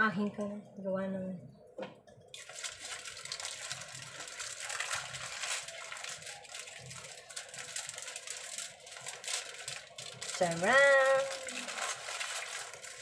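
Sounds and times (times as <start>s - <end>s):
aluminium foil crinkling: 2.2s - 13.0s.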